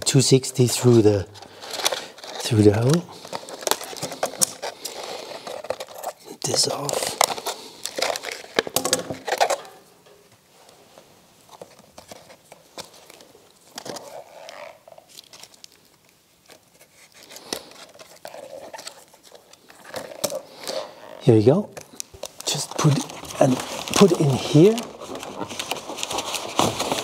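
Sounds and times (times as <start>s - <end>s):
balloons crinkling and rustling: 0.0s - 27.0s.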